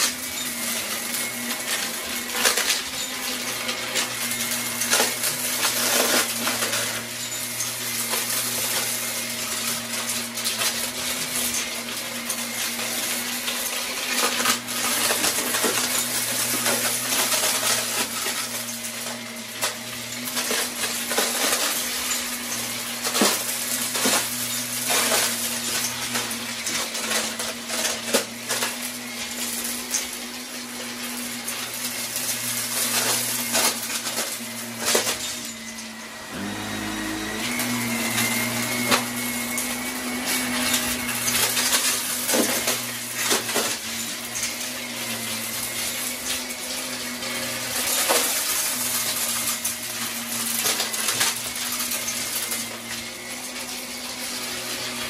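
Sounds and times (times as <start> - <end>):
debris crackling and rattling: 0.0 - 54.1
vacuum cleaner running on carpet: 0.0 - 55.0.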